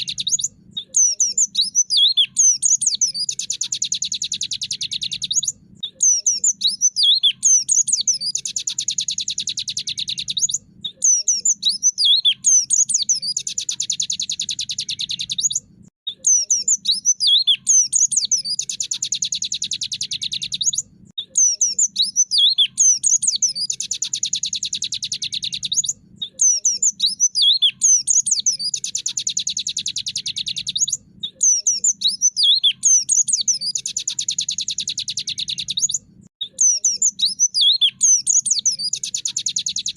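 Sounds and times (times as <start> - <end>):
bird twittering whistles: 0.0 - 39.9.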